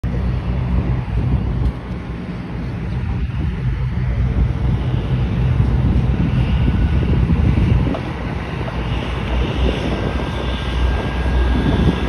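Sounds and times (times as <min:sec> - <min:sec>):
truck diesel engine drone: 0:00.0 - 0:12.0
wind rumbling on microphone: 0:00.0 - 0:12.0.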